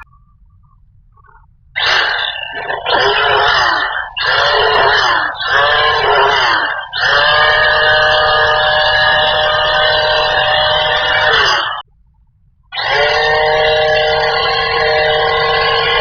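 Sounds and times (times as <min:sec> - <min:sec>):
power tool motor whining: 0:01.8 - 0:11.8, 0:12.8 - 0:16.0.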